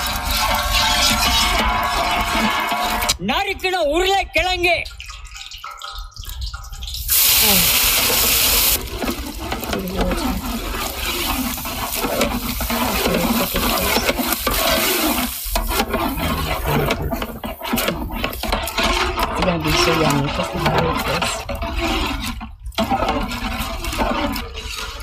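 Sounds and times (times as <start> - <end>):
potatoes stirred in pot: 0.0 - 3.2, 7.0 - 25.0.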